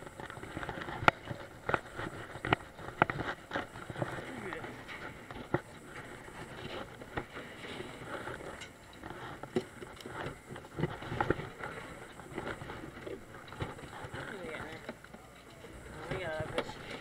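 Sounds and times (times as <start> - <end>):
boat deck background noise: 0.0 - 17.0.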